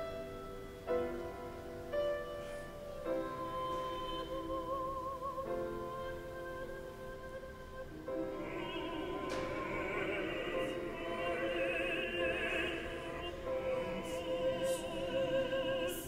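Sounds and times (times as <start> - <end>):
high voices singing with vibrato: 3.0 - 16.0
mixed choir singing chords: 3.0 - 16.0.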